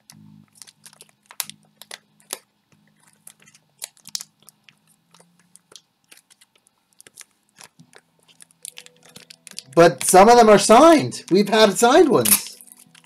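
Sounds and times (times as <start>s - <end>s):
small clicks and crackles: 0.0s - 10.2s, 12.3s - 13.0s.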